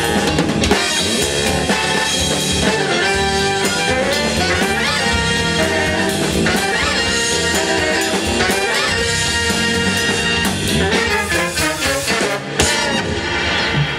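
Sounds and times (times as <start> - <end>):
drum kit: 0.0 - 13.9
horn section: 0.0 - 13.9.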